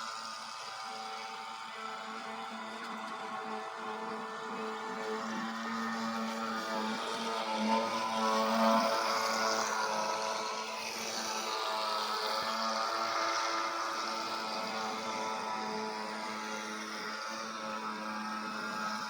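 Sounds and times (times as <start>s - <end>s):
electric motor whine: 0.2s - 19.0s.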